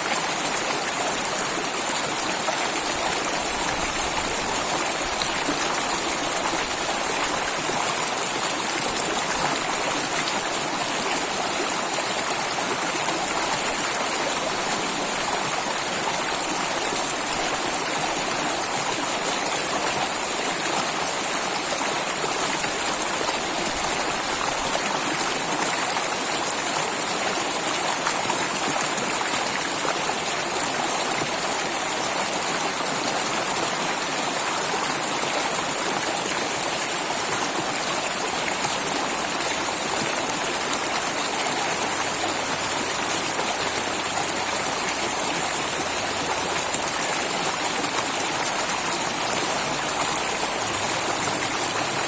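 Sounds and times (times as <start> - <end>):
water rushing and splashing: 0.0 - 52.0.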